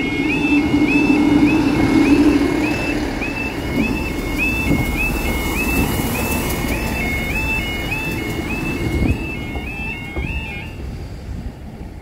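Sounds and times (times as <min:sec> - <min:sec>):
train engine and wheel rumble: 0:00.0 - 0:12.0.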